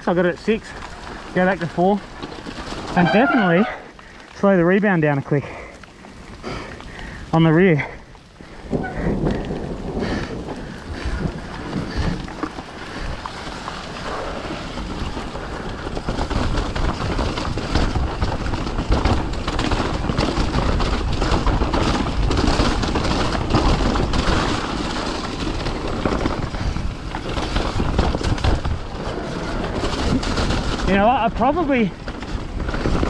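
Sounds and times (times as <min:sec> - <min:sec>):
bike knocking and rattling: 0:00.0 - 0:33.0
tyres rumbling on trail: 0:00.0 - 0:33.0.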